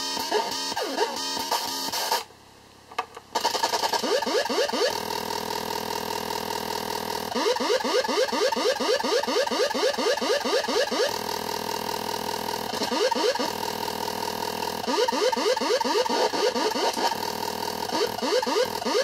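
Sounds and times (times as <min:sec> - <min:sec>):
electronic buzz: 0:00.0 - 0:02.3, 0:03.4 - 0:19.0.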